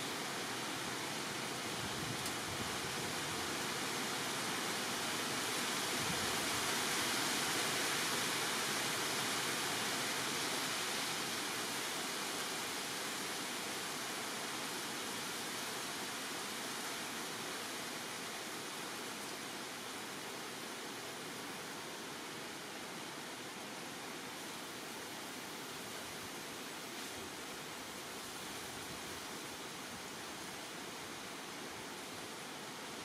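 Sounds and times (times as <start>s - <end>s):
rainforest rushing hiss: 0.0s - 33.0s.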